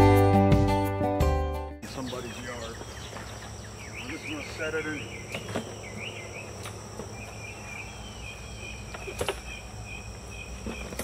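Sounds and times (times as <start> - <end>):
insects droning: 1.8 - 11.0.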